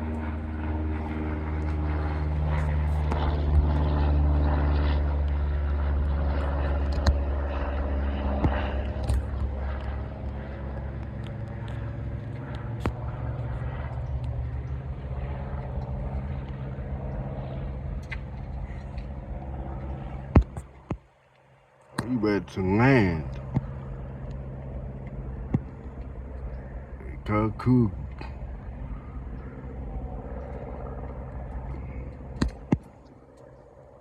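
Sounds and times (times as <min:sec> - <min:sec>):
airplane engines passing: 0:00.0 - 0:34.0.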